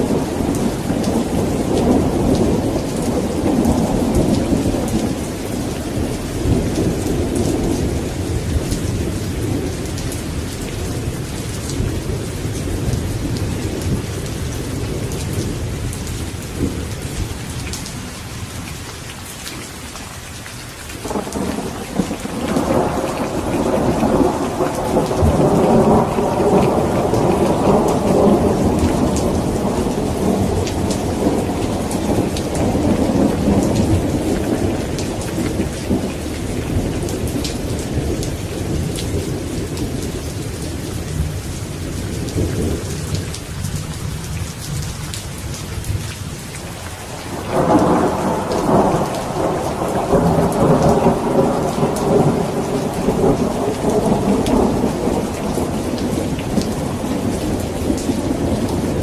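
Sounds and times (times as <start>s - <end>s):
rolling thunder: 0.0s - 17.3s, 21.0s - 46.2s, 47.1s - 59.0s
heavy rain: 0.0s - 59.0s.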